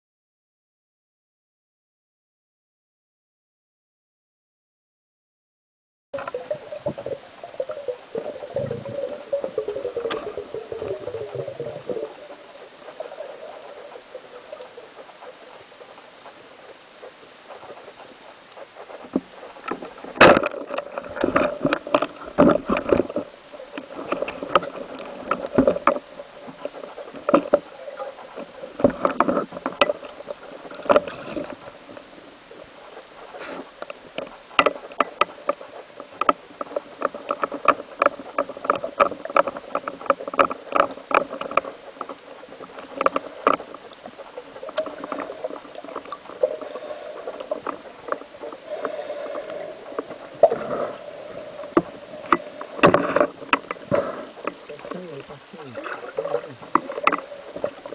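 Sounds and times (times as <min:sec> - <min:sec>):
muffled underwater noise: 0:06.2 - 0:57.9.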